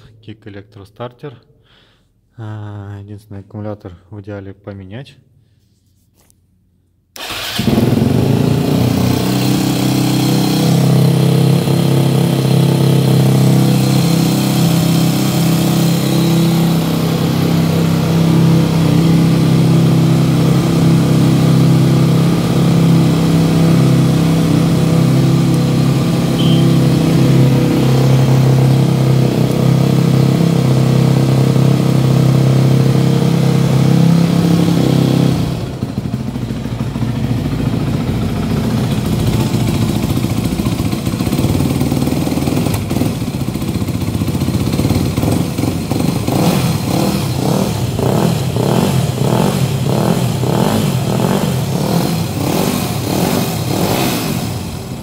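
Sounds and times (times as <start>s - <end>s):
motorcycle engine starting and running: 7.2s - 55.0s.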